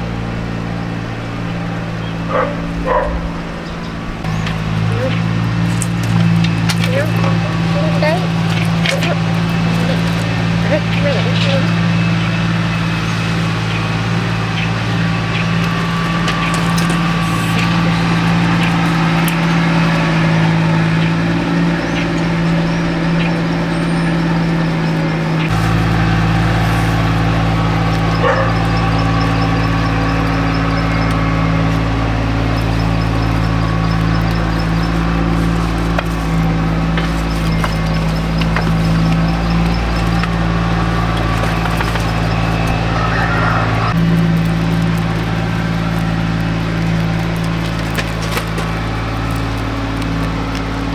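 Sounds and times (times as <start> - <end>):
motor engine running: 0.0 - 50.9.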